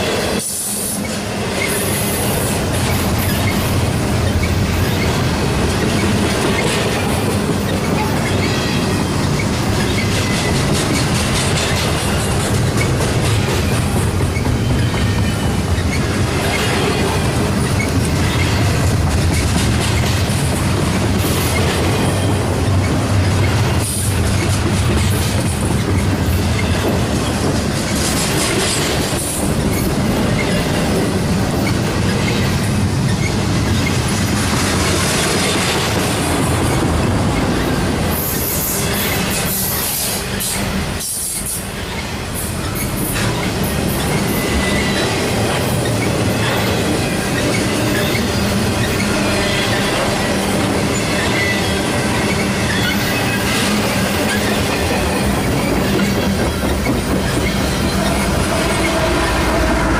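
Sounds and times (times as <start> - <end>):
freight train rumbling past: 0.0 - 59.9
wheels clacking over rail joints: 1.0 - 59.9.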